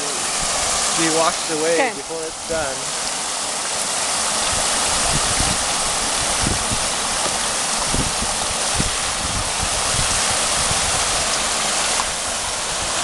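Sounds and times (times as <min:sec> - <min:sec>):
rushing water hiss: 0:00.0 - 0:13.0.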